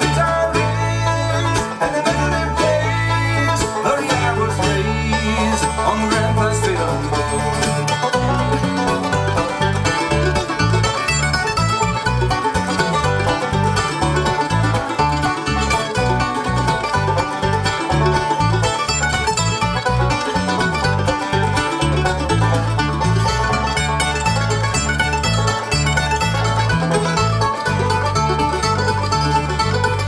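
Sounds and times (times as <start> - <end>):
acoustic guitar picking: 0.0 - 30.0
banjo: 0.0 - 30.0
bass guitar line: 0.0 - 30.0
mandolin: 0.0 - 30.0.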